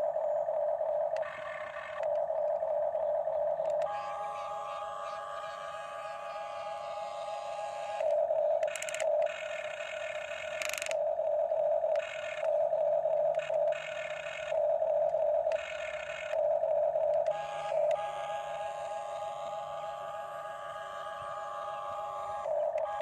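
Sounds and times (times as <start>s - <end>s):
pulsing electronic tone: 0.0s - 23.0s
small electric motors whining: 0.0s - 23.0s.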